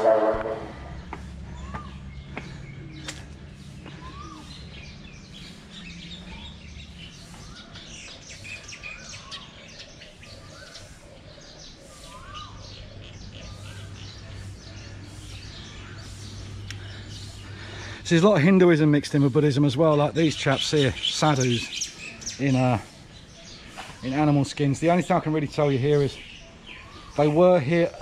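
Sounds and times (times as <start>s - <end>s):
birds chirping chorus: 0.0s - 28.0s.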